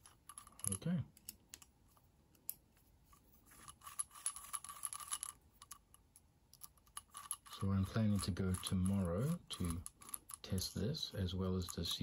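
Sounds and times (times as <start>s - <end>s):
metallic ticks and scraping: 0.0s - 12.0s.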